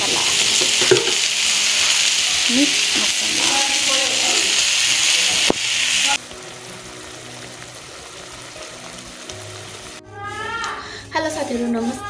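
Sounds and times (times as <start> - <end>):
vegetables sizzling in oil: 0.0 - 10.5.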